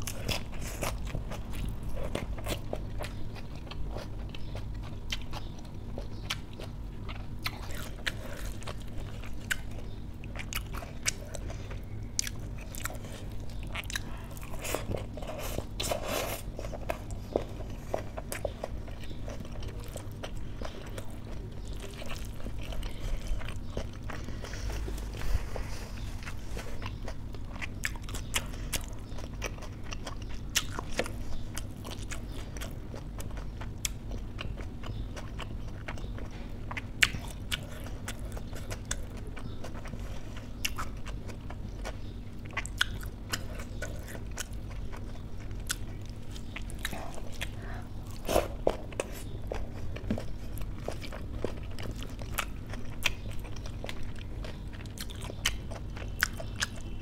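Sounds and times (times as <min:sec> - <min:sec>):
chewing with wet clicks: 0:00.0 - 0:57.0.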